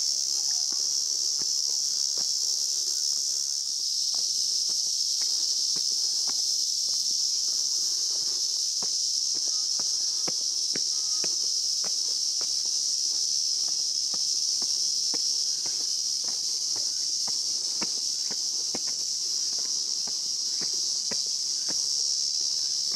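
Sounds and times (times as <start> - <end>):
cicadas droning: 0.0 - 22.9
footsteps on stone steps: 0.4 - 3.2, 4.0 - 22.9.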